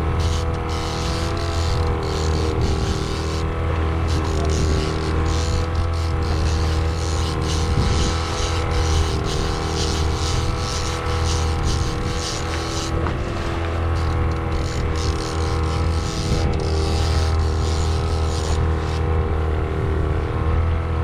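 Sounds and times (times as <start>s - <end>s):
boat motor humming: 0.0s - 20.4s.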